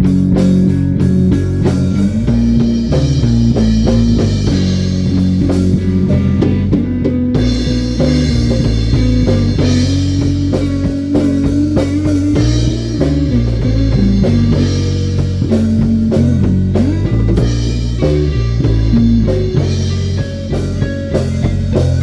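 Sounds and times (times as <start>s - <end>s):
bass guitar: 0.0s - 22.0s
drum kit: 0.0s - 22.0s
electric guitar sustained notes: 0.0s - 22.0s.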